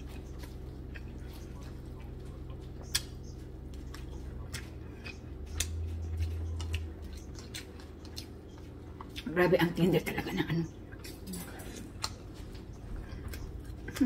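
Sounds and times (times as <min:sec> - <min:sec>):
mouth clicks and chewing: 0:00.0 - 0:09.3, 0:10.9 - 0:14.0
low steady hum: 0:00.0 - 0:14.0.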